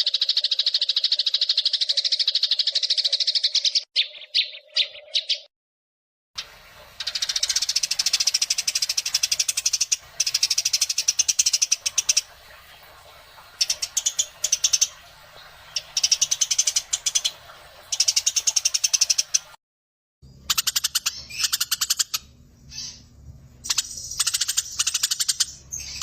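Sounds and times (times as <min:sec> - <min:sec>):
sparrows chattering: 0:00.0 - 0:05.5, 0:07.0 - 0:12.2, 0:13.6 - 0:19.4, 0:20.4 - 0:26.0.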